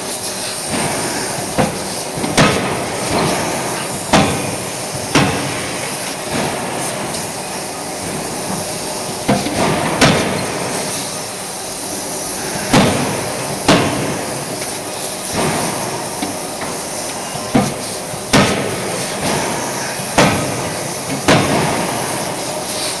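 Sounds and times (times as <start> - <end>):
forging line noise: 0.0 - 23.0.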